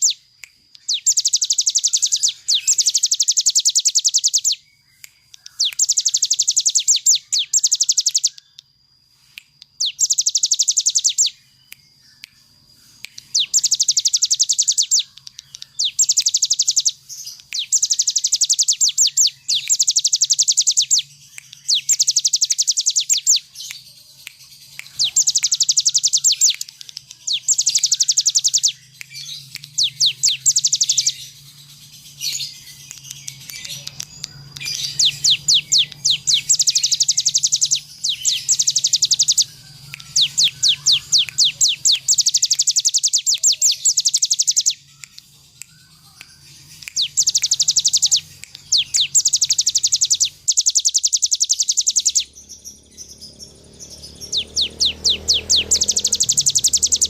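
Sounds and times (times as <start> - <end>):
bird singing rapid trill: 0.0 - 57.0.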